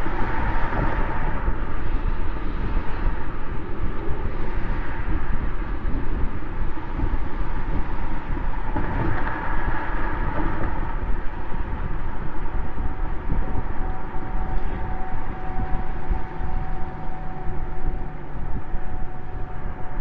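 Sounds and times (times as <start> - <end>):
car exhaust rumble: 0.0 - 20.0
road noise: 0.0 - 20.0.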